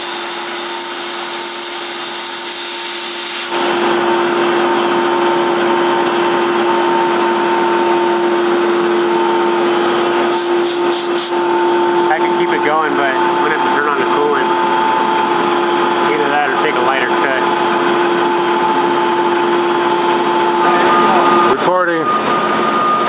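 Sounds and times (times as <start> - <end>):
lathe humming and whining: 0.0 - 23.0.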